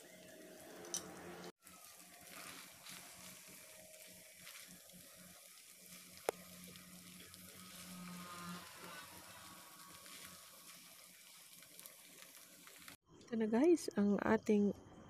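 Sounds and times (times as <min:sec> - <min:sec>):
noodles sizzling in a pan: 0:00.0 - 0:13.0.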